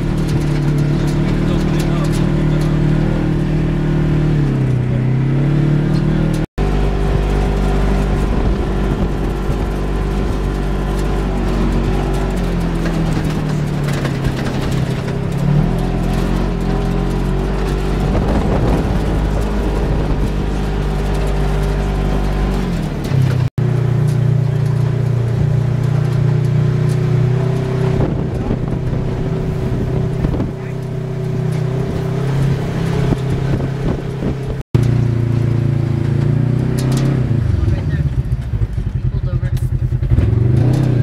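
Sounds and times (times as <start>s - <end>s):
tyres on gravel: 0.0s - 41.0s
utility vehicle engine running: 0.0s - 41.0s.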